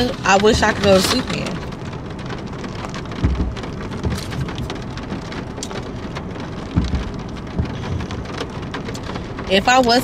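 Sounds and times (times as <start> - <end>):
low thumps: 0.0 - 9.6
rain on a car: 0.0 - 10.0.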